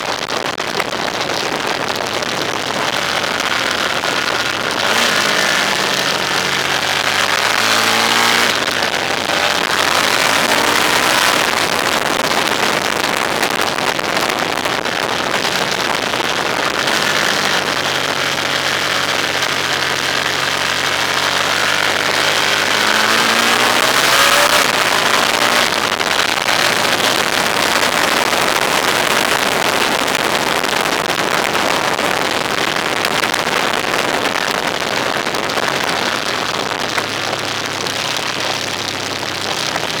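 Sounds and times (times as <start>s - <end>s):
road and wind noise: 0.0s - 40.0s
vehicle engine accelerating: 1.6s - 29.7s, 34.0s - 40.0s.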